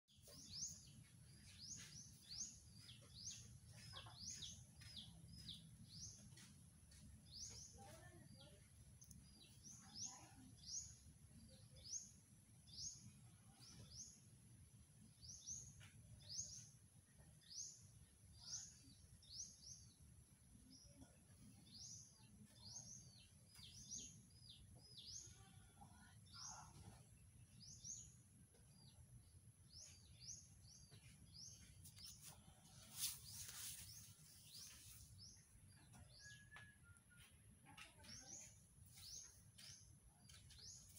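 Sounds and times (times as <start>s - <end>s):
small bird chirping: 0.1s - 14.4s, 15.1s - 40.9s.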